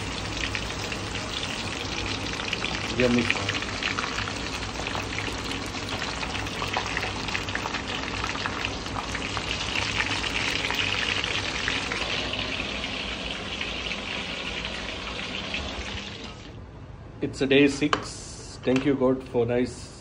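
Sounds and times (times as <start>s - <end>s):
fish deep-frying in oil: 0.0s - 16.2s.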